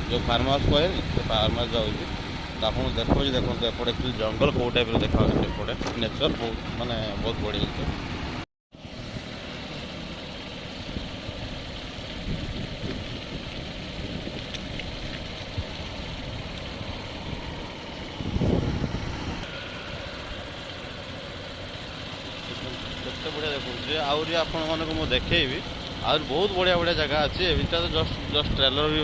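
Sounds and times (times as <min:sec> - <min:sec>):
motor vehicle running: 0:00.0 - 0:29.0.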